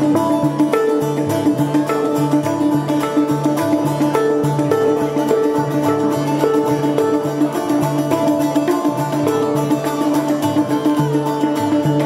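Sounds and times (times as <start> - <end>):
handpan notes ringing: 0.0 - 12.0
plucked lute melody: 0.0 - 12.0.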